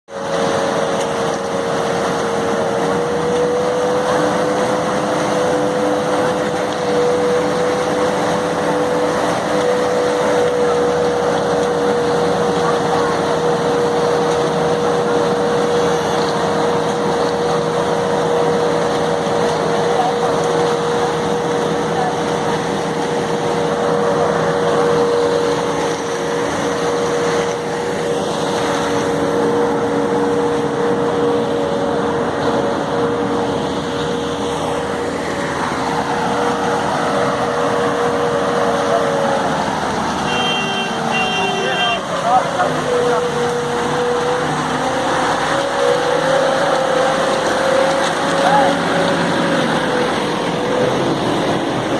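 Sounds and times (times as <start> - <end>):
construction machinery engine running: 0.1 - 51.9.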